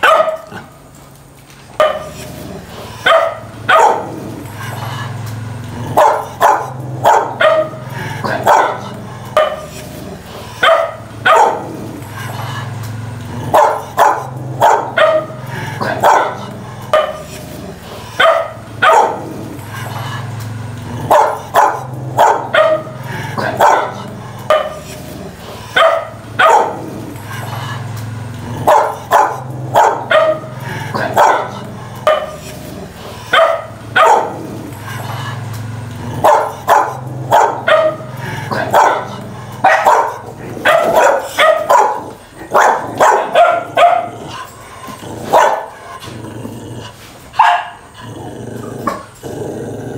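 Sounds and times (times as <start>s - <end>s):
dogs barking: 0.0s - 0.9s, 1.7s - 46.2s, 47.2s - 49.2s.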